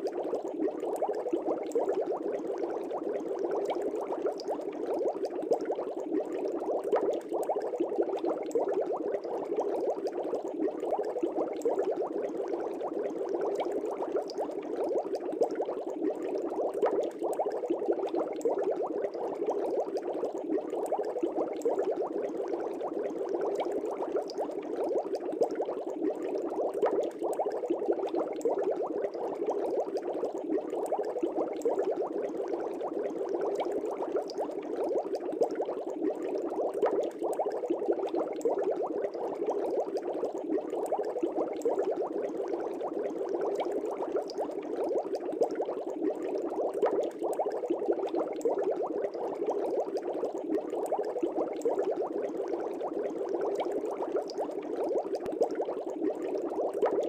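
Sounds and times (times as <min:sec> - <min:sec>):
aquarium bubbling: 0:00.0 - 0:57.0.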